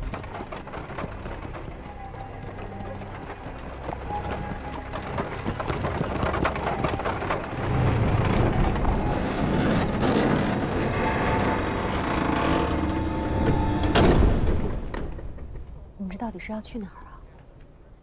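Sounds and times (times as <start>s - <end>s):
horse-drawn carriage rolling: 0.0s - 16.7s.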